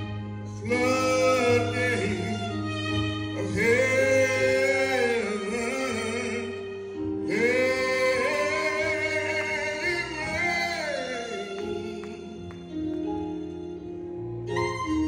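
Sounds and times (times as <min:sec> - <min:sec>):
instrumental chords: 0:00.0 - 0:15.0
man singing gospel: 0:00.5 - 0:12.9.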